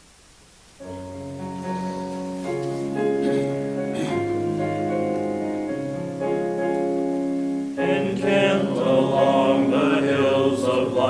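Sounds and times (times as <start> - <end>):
piano playing hymn chords: 0.8 - 11.0.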